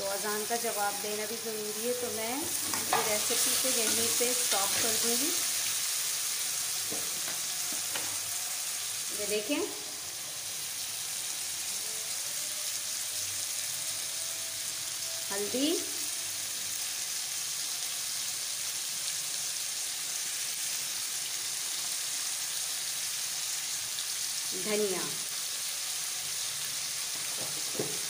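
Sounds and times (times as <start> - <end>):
meat and onions sizzling in oil: 0.0 - 28.0.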